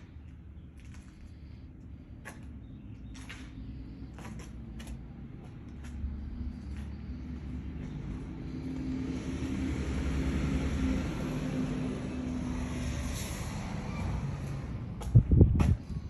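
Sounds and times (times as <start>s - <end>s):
train engine drone: 0.0s - 16.0s.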